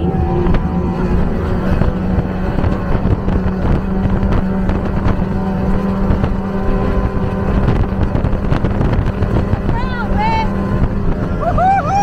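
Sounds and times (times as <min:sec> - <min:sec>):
outboard motor running flat out: 0:00.0 - 0:12.0
wind and water rushing: 0:00.0 - 0:12.0.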